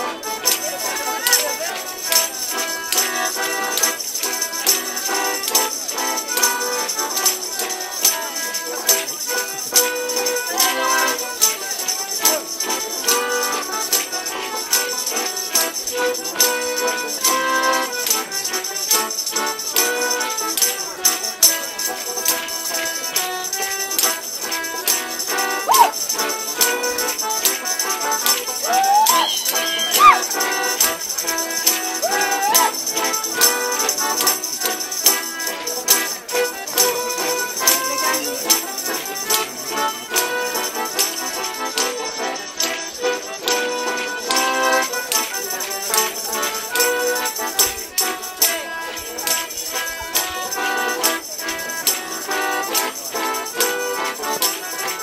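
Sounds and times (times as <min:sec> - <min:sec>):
folk dance tune: 0:00.0 - 0:55.0
jingling rattling percussion: 0:00.0 - 0:55.0.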